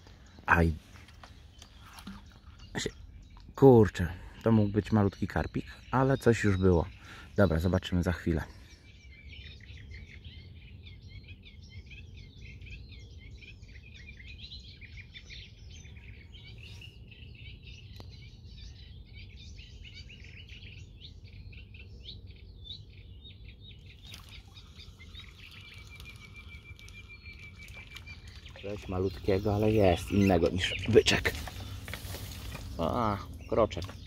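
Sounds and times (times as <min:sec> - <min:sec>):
birds chirping and singing: 0:00.0 - 0:34.0.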